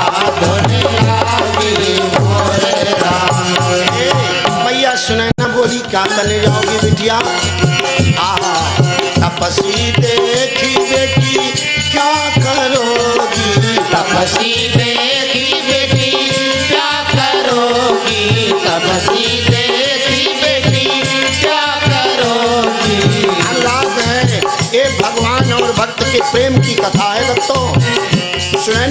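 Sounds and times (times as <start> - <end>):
hand drum rhythm: 0.0 - 4.9, 5.7 - 28.9
man singing devotional song: 0.0 - 28.9.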